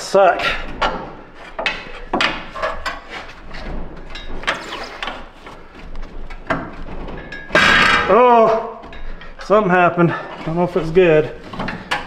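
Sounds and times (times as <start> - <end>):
hand tools clicking and scraping: 0.4 - 12.0.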